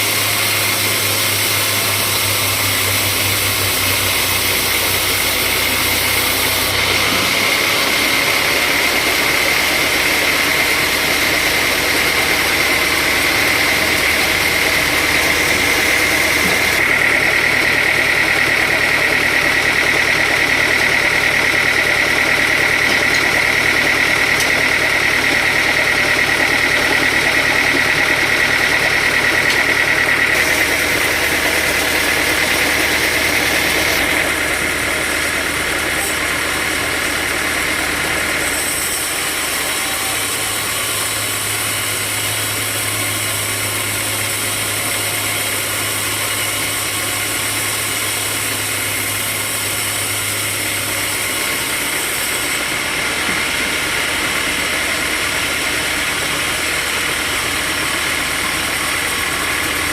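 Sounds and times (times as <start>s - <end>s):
high steady whine: 0.0s - 59.9s
sawmill machinery hum: 0.0s - 59.9s.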